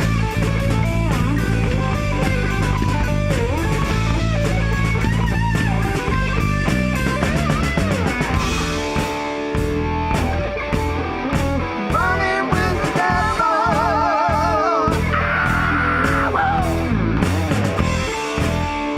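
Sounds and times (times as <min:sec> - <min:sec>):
bass guitar: 0:00.0 - 0:18.9
drum kit: 0:00.0 - 0:18.9
guitar lines: 0:00.0 - 0:18.9.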